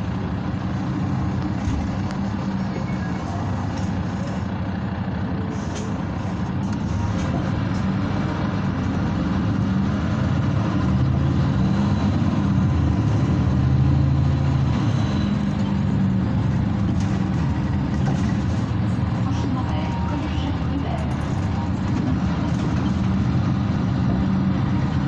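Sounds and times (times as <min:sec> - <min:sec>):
bus diesel engine pulling: 0:00.0 - 0:25.0.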